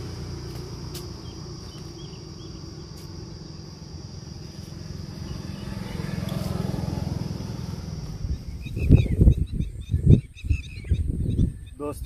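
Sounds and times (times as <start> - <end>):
high-pitched insect buzz: 0.0 - 11.4
low rumble: 0.0 - 11.7.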